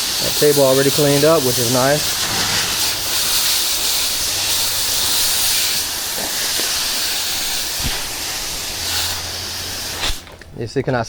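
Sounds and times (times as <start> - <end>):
pressure washer spray hissing: 0.0 - 10.4.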